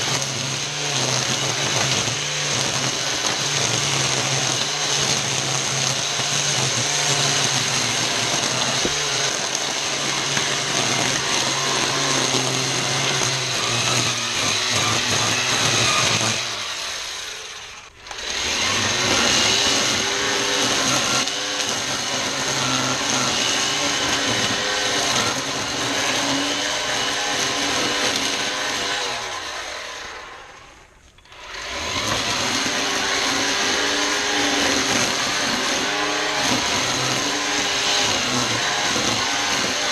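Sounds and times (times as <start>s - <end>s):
string trimmer cutting grass: 0.0s - 39.9s.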